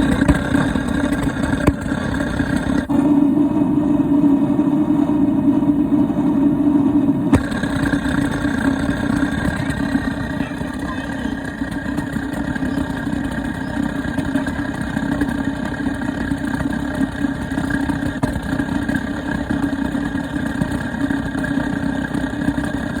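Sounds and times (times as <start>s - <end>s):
constant higher tone: 0.0s - 23.0s
water heater rumbling drone: 0.0s - 23.0s.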